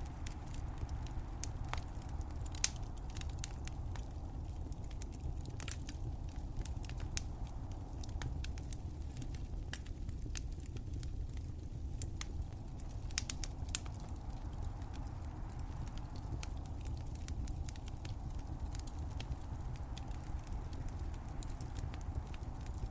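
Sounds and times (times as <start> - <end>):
steady low rumble: 0.0 - 22.9
wood fire crackling and popping: 0.0 - 22.9.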